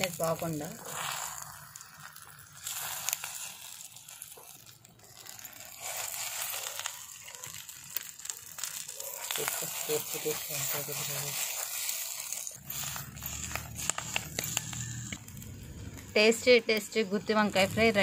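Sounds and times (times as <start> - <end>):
spatula scraping a pot: 0.0 - 15.4
vegetables sizzling in oil: 0.0 - 18.0.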